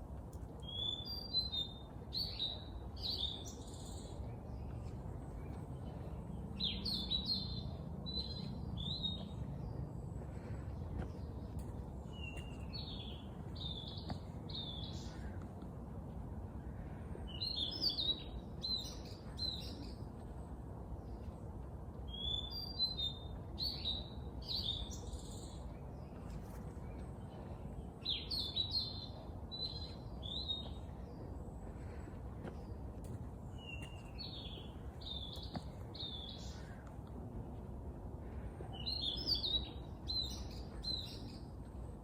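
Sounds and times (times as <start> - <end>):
low background rumble: 0.0 - 42.0
songbird chirping: 0.1 - 42.0.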